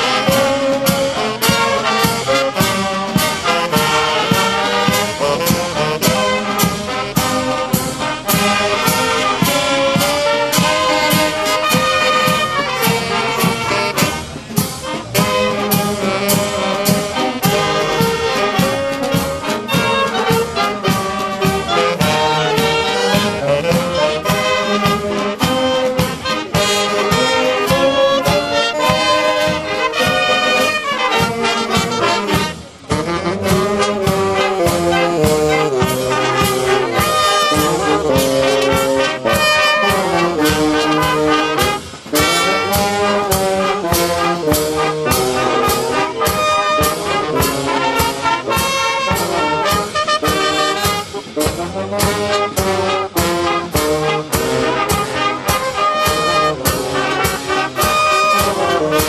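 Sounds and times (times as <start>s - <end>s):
brass band playing a march: 0.0s - 59.0s.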